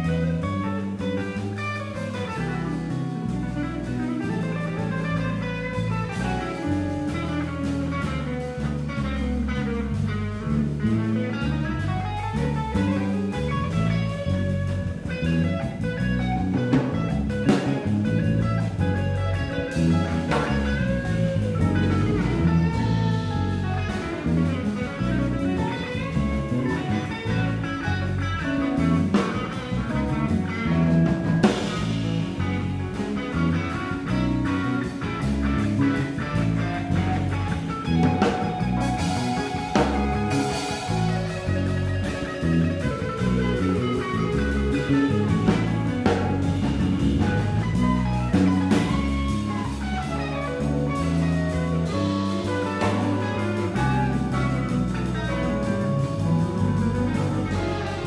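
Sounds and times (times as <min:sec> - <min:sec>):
bass line: 0:00.0 - 0:58.0
drum kit: 0:00.0 - 0:58.0
electric guitar single-note lines: 0:00.0 - 0:58.0.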